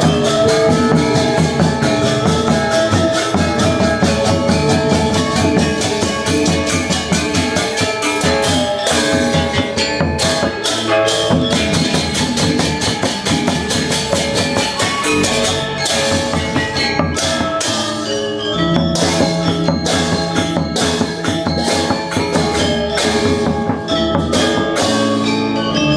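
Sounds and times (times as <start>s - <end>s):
cymbals: 0.0s - 25.9s
drums: 0.0s - 25.9s
metallophones and gongs ringing: 0.0s - 25.9s.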